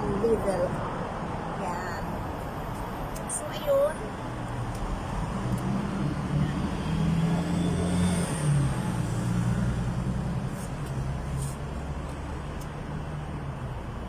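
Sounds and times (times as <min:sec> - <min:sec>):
vehicle engine humming: 0:02.0 - 0:14.0.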